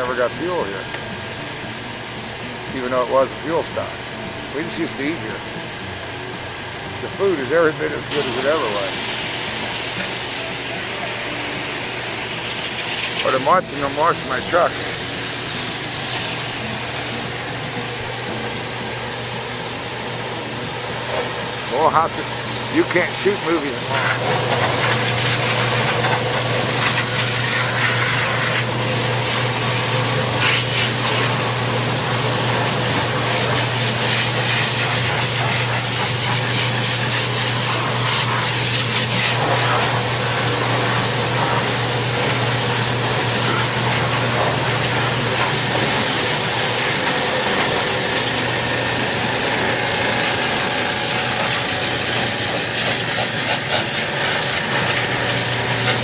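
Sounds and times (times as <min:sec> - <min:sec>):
low machine hum: 0:00.0 - 0:56.0
water spraying hiss: 0:07.1 - 0:56.0.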